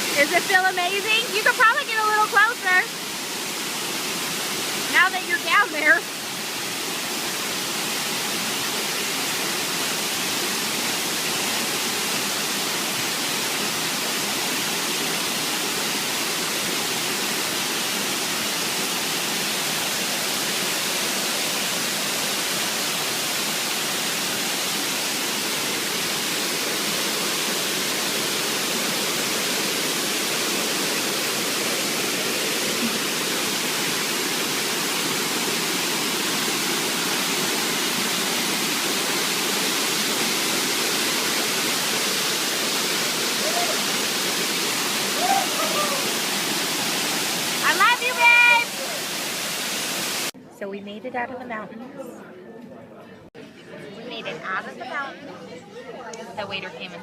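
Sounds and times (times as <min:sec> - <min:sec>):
waterfall rushing: 0:00.0 - 0:50.4.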